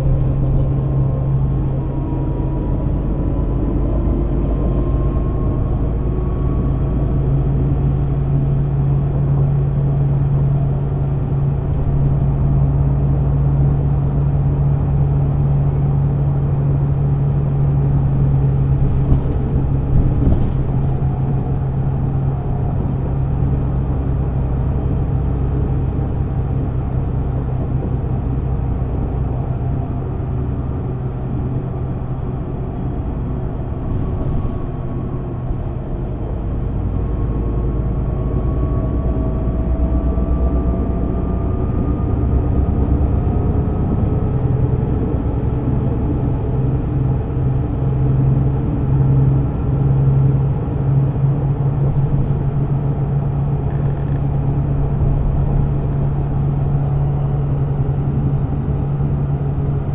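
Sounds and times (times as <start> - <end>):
bus diesel engine humming: 0.0 - 59.9.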